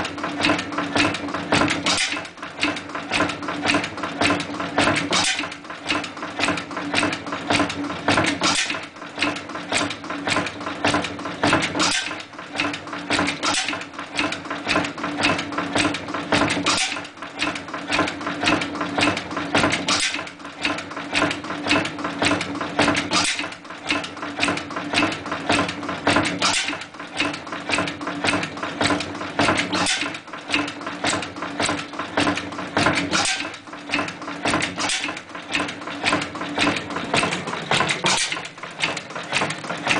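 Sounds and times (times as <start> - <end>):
oil engine clattering: 0.0 - 39.9.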